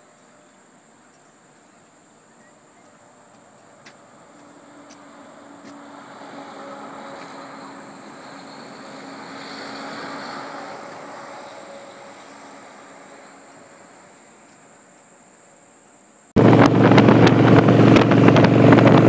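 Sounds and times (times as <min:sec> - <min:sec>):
distant engine passing: 0:01.6 - 0:15.1, 0:16.4 - 0:19.0.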